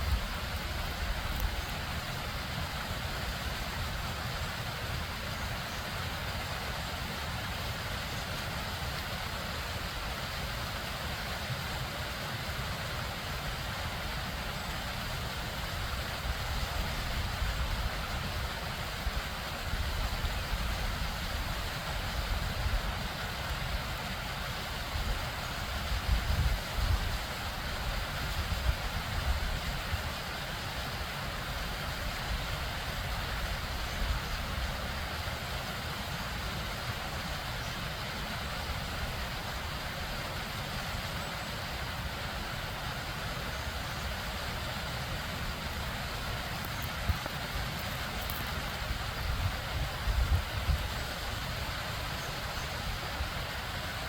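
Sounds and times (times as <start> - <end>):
stream and waterfall rushing: 0.0 - 54.0.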